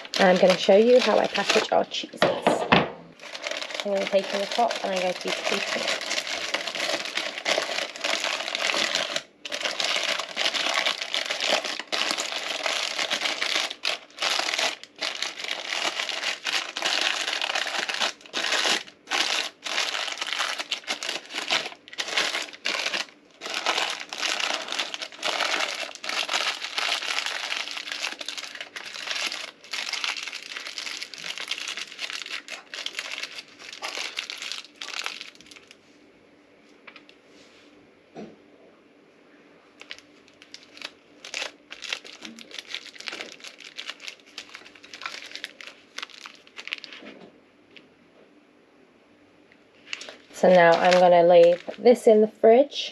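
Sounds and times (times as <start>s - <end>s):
parchment paper crinkling: 0.0s - 2.1s, 3.2s - 35.8s, 39.8s - 47.2s, 49.8s - 52.0s.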